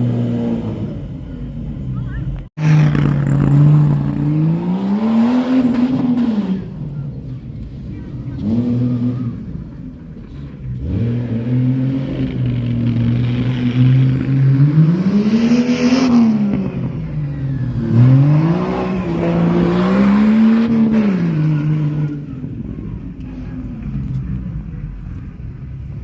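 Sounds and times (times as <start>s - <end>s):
car engine revving: 2.0s - 25.2s.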